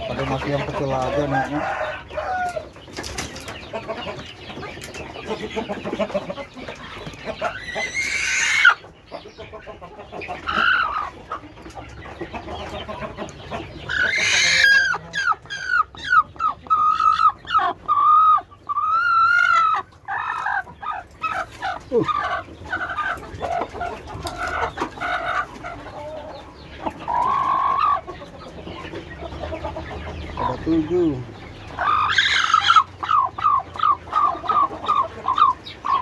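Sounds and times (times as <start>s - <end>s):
chickens clucking and calling: 0.0s - 36.0s.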